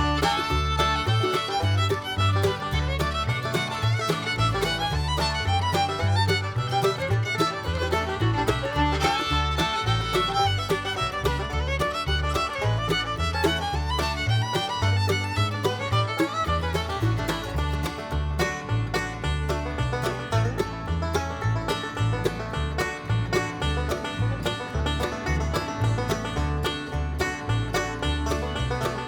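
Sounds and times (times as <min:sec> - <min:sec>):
upbeat bluegrass music: 0:00.0 - 0:29.0.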